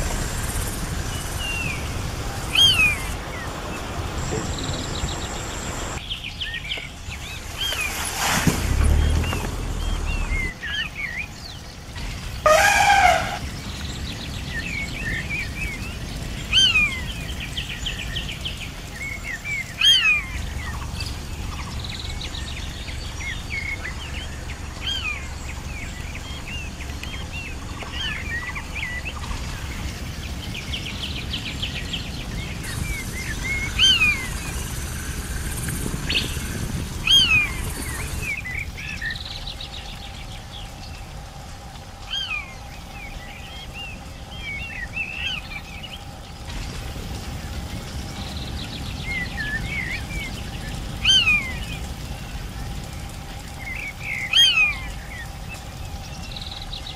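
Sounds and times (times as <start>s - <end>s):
low steady rumble: 0.0s - 6.1s, 6.9s - 56.9s
birds chirping and calling: 0.0s - 8.0s, 8.8s - 41.2s, 42.0s - 56.9s.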